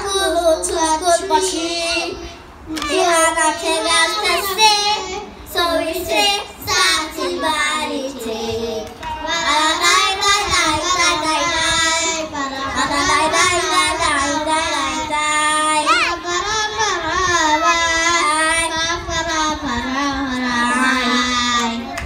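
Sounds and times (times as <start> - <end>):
children singing: 0.0 - 22.0.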